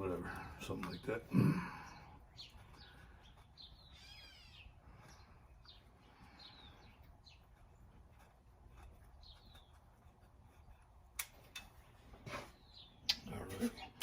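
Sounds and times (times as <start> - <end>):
faint bird chirps: 0.4 - 10.9, 12.4 - 14.0.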